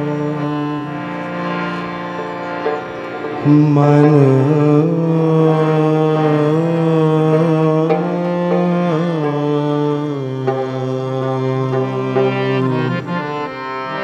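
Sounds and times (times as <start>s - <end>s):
man singing long note: 0.0s - 1.2s, 3.4s - 14.0s
harmonium: 0.0s - 14.0s
rabab: 0.0s - 14.0s.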